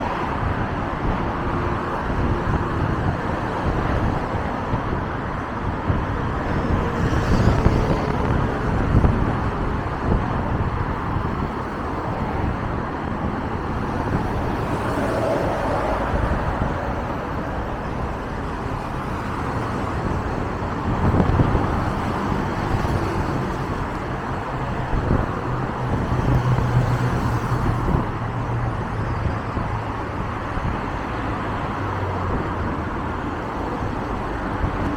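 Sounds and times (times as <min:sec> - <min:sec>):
bus engine low rumble: 0:00.0 - 0:34.9
road noise: 0:00.0 - 0:34.9.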